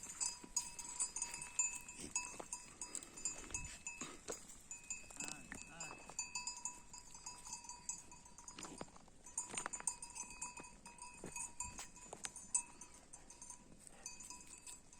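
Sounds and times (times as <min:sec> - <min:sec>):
livestock bells clanking: 0:00.0 - 0:14.9.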